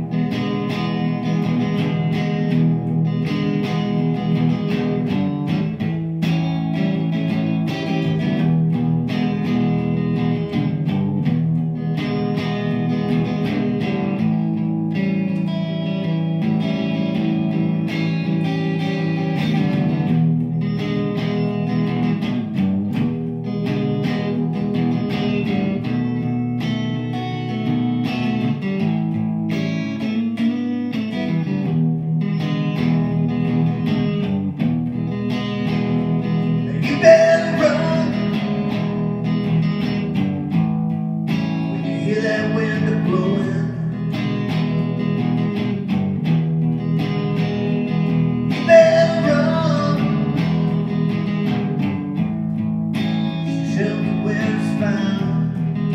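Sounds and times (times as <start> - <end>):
electric guitar through amplifier: 0.0 - 55.9.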